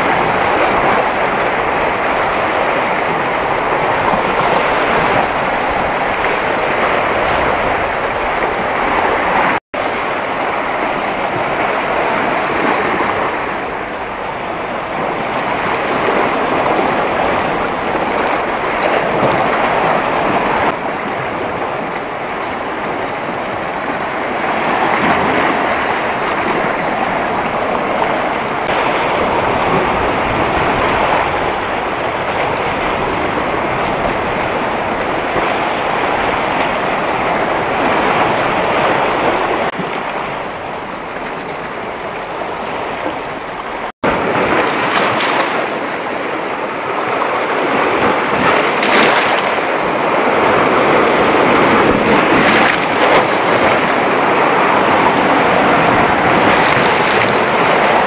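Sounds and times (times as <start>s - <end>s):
waves breaking on rocks: 0.0s - 58.0s.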